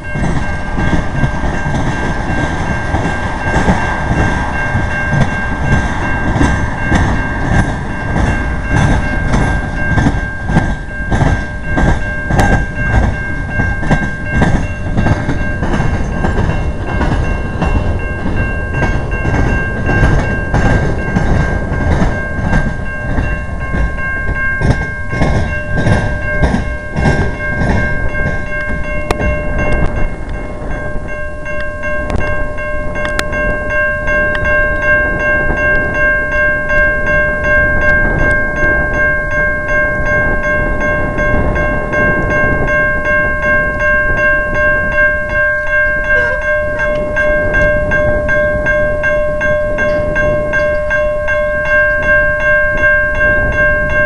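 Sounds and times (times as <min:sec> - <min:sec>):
freight train rumbling: 0:00.0 - 0:54.0
wheels clacking over rail joints: 0:00.0 - 0:54.0
high-pitched tone: 0:04.5 - 0:54.0.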